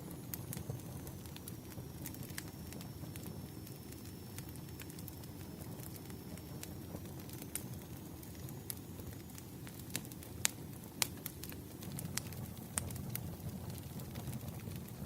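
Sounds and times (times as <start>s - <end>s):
firewood crackling and popping: 0.0s - 15.0s
rumble of flames: 0.0s - 15.0s.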